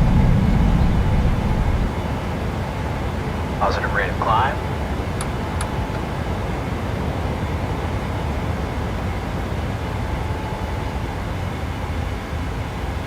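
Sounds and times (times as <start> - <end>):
jet engine noise in cabin: 0.0 - 13.0.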